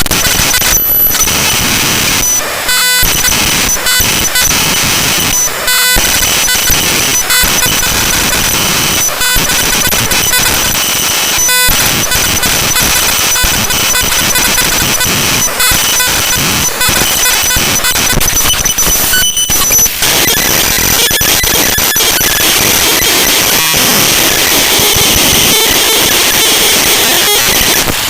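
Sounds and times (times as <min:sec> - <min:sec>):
harsh digital noise with buzzing: 0:00.0 - 0:28.0
steady high tones: 0:00.0 - 0:28.0.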